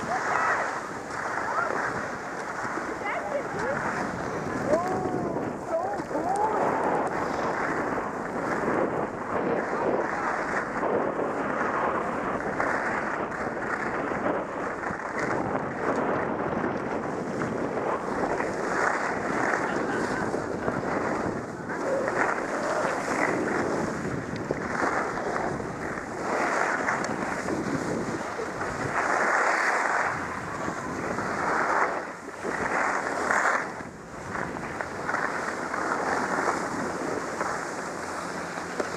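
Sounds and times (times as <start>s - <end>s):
skis scraping over snow: 0.0s - 38.9s
wind rushing on microphone: 0.0s - 38.9s.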